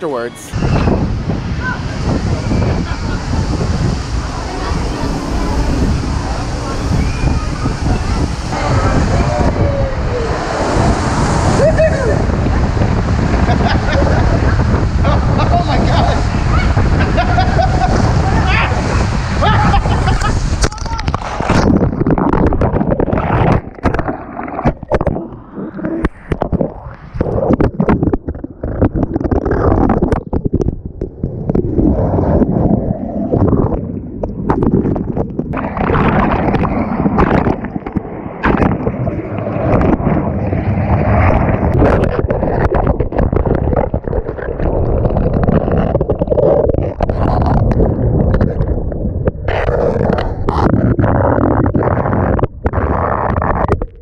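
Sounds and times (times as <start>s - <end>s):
muffled water rushing and gurgling: 0.0s - 54.0s.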